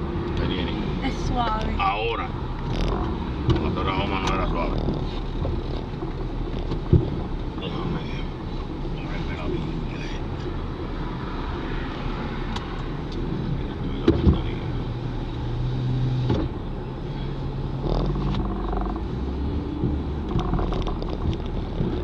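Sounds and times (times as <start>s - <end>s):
vehicle engine running: 0.0s - 11.2s, 12.3s - 22.0s.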